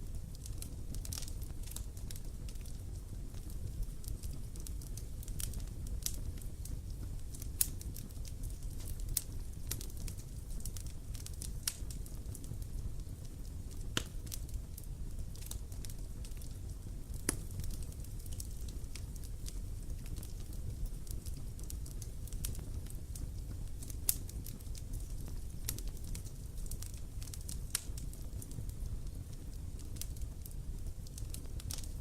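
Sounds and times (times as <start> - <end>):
burning wood crackling and popping: 0.0 - 32.0
campfire flame rumble: 0.0 - 32.0.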